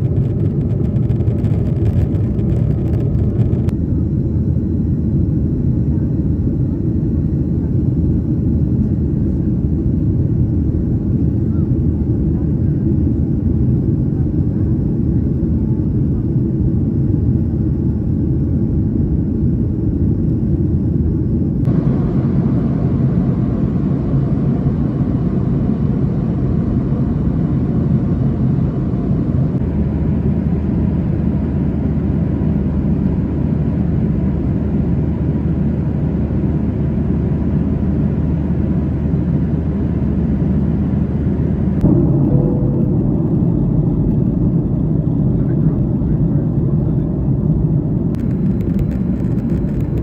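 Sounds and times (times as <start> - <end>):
airliner cabin engine rumble: 0.0 - 50.0.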